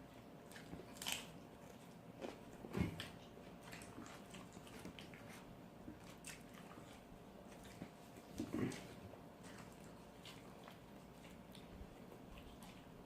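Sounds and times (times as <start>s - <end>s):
chewing and biting food: 0.4s - 13.0s.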